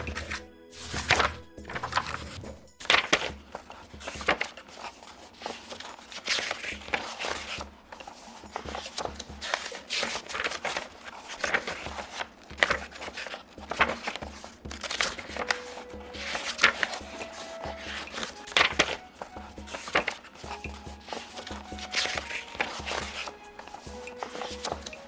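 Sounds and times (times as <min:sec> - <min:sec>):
paper pages turning: 0:00.0 - 0:25.0.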